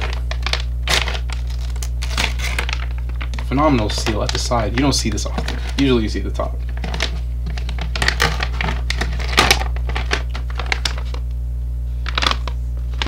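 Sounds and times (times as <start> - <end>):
plastic bag crackling: 0.0 - 11.3, 12.0 - 13.0
steady low hum: 0.0 - 13.0.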